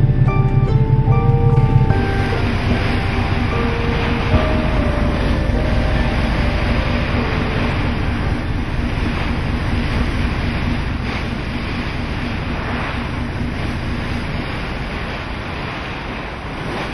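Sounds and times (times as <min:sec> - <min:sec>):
low engine hum: 0:00.0 - 0:16.9
wind buffeting microphone: 0:00.0 - 0:16.9
rush of waves: 0:01.2 - 0:16.9.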